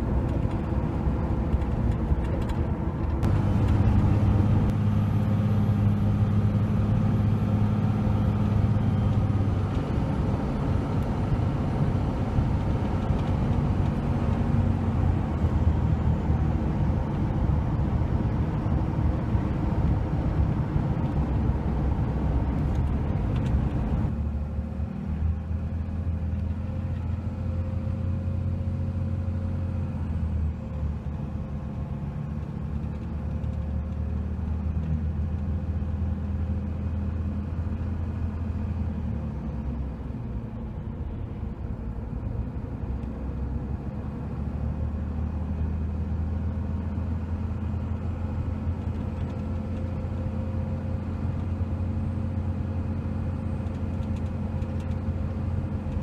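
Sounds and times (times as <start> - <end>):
diesel engine drone: 0.0 - 56.0
tyre and road noise: 0.0 - 56.0.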